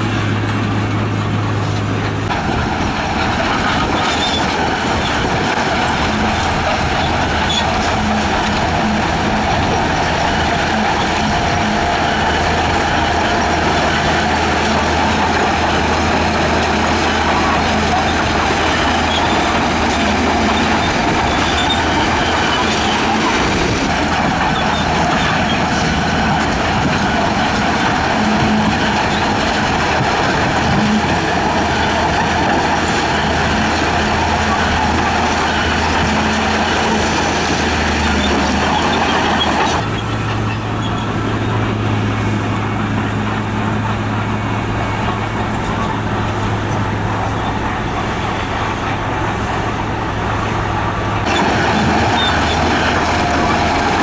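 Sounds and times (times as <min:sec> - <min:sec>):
diesel engine drone with clatter: 0:00.0 - 0:54.0
higher-pitched engine drone: 0:00.0 - 0:54.0.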